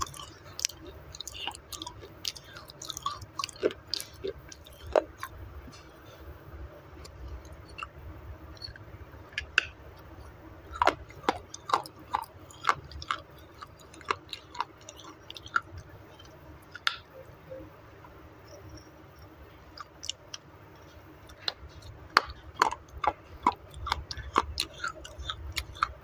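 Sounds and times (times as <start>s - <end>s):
crunching and chewing clay: 0.0s - 6.3s, 6.9s - 17.0s, 19.2s - 26.0s.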